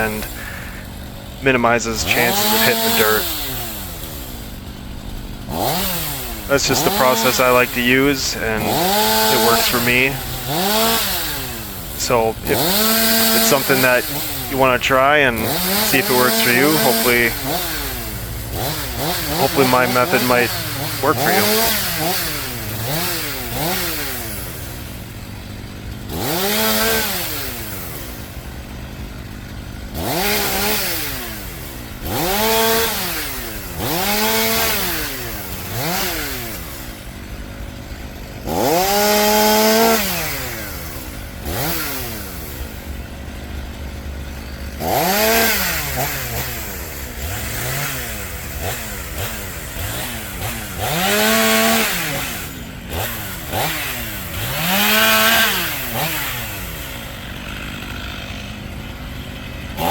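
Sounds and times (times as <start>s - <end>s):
chainsaw revving and idling: 0.0s - 59.9s.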